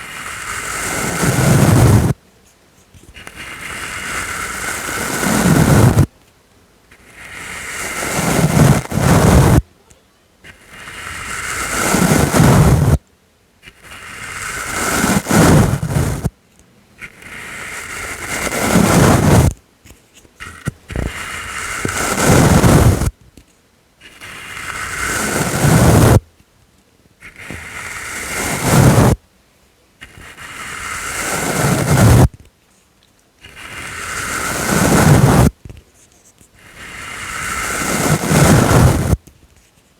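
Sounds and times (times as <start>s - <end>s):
brush stroked over microphone: 0.0s - 6.1s, 6.9s - 9.7s, 10.4s - 13.0s, 13.7s - 16.3s, 17.0s - 23.2s, 24.0s - 26.2s, 27.3s - 29.2s, 30.0s - 39.9s.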